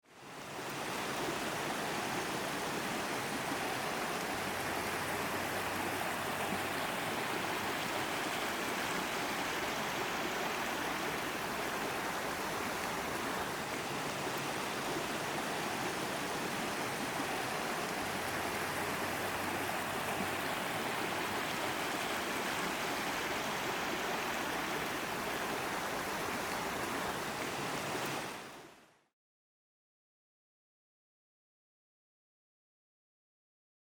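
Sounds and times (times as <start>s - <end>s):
creek water rushing: 0.1s - 28.9s.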